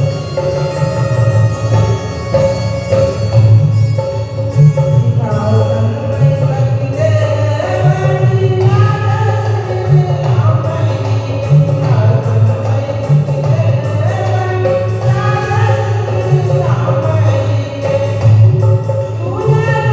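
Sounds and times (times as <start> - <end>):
instrumental accompaniment: 0.0 - 19.9.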